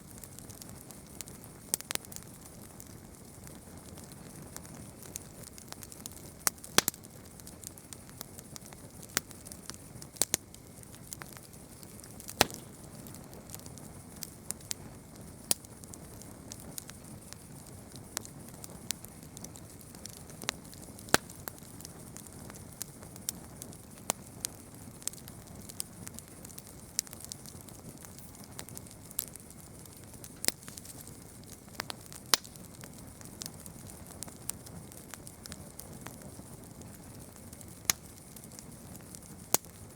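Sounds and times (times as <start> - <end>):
hiss of flames: 0.0 - 39.9
burning wood popping: 0.1 - 39.9.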